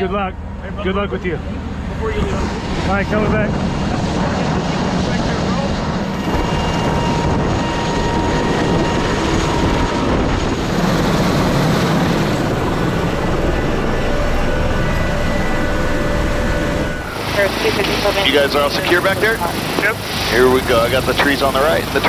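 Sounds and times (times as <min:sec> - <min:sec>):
faint high whine: 0:00.0 - 0:22.0
helicopter rotor and turbine rush: 0:00.0 - 0:22.0.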